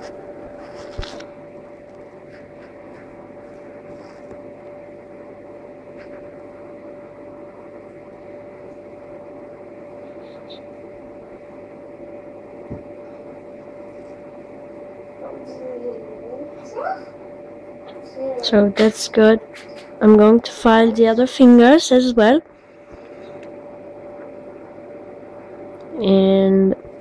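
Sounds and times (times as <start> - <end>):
steady electrical hum: 0.0 - 27.0.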